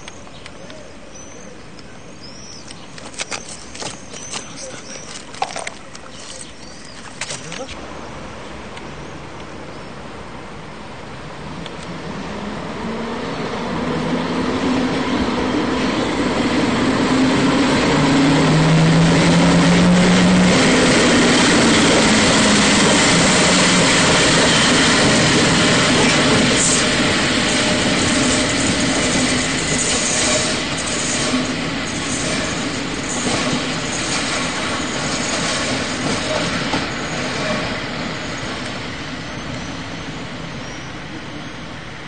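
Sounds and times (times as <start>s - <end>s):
train rolling past: 7.7s - 42.0s.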